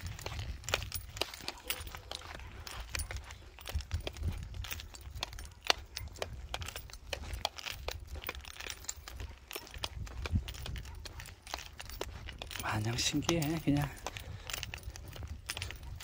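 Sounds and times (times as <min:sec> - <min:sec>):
leash metal clicks and jingles: 0:00.0 - 0:16.0.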